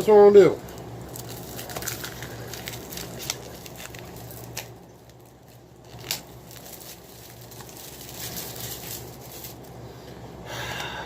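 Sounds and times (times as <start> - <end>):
plastic wrap crinkling: 0.4 - 9.8.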